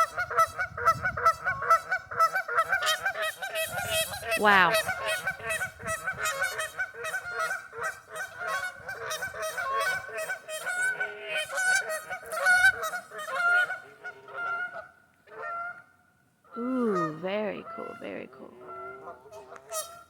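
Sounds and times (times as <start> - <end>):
geese honking: 0.0 - 15.9, 16.9 - 20.0.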